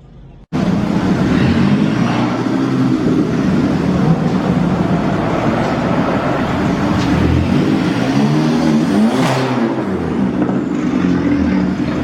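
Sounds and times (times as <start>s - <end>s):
car engine running at low revs: 0.5s - 12.0s.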